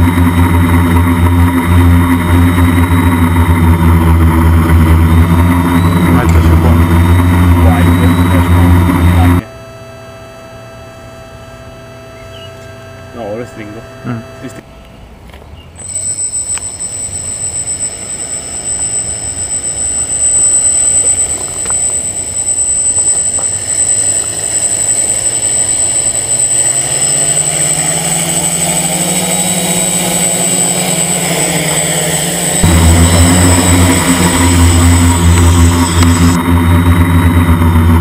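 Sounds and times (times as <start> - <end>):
drone propellers whining: 0.0 - 38.0.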